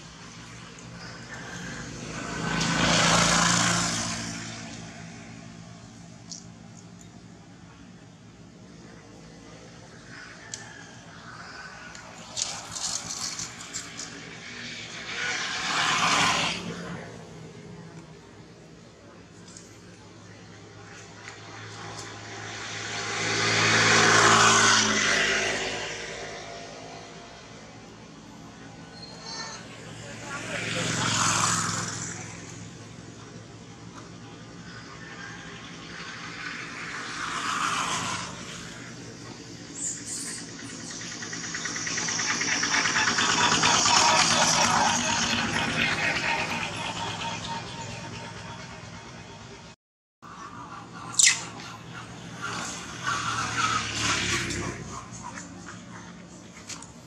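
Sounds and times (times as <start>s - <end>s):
vehicle passing by: 0.0s - 6.6s, 7.4s - 57.0s.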